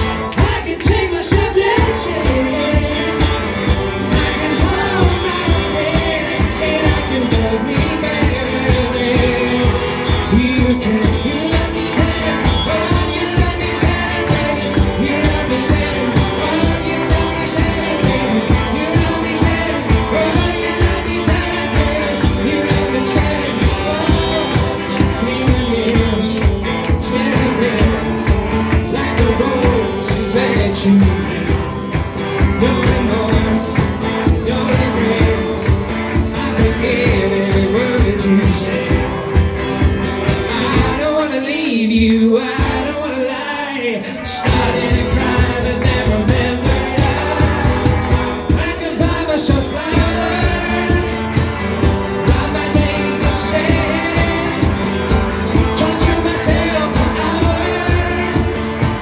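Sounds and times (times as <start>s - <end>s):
live rock band playing: 0.0s - 43.4s, 44.0s - 59.0s
person singing: 0.0s - 59.0s.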